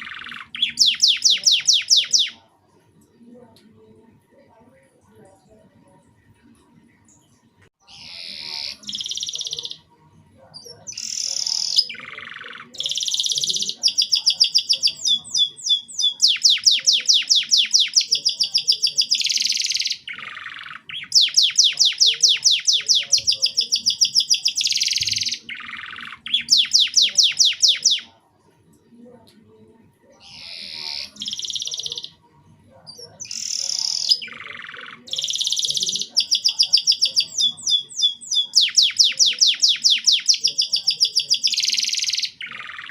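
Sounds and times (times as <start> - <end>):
canary singing: 0.0 - 2.5, 7.2 - 28.2, 29.6 - 42.9.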